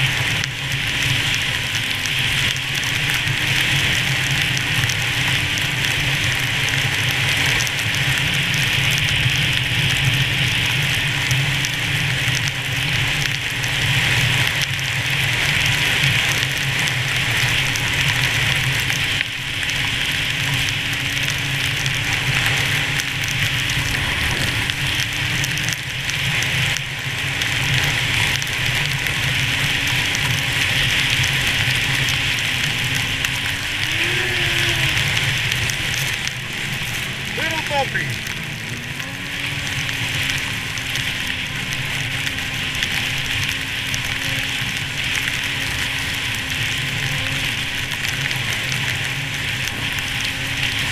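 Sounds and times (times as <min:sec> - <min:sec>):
rush of wind and snow: 0:00.0 - 0:50.9
snowmobile engine running: 0:00.0 - 0:50.9.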